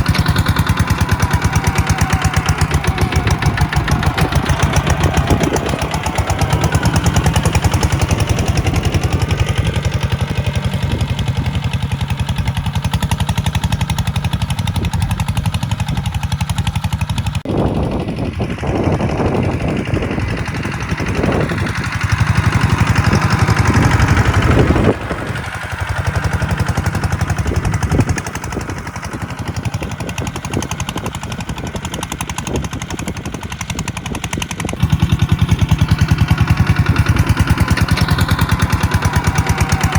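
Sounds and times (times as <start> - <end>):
tractor diesel engine chugging: 0.0 - 39.9.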